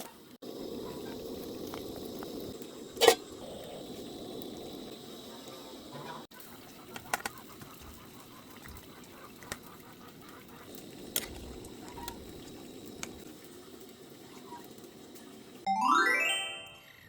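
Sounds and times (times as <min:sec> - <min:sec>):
soup bubbling in a pot: 0:00.3 - 0:15.7.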